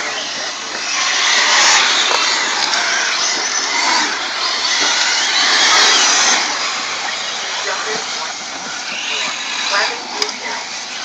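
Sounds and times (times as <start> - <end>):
rc cars buzzing on dirt: 0.0 - 11.0.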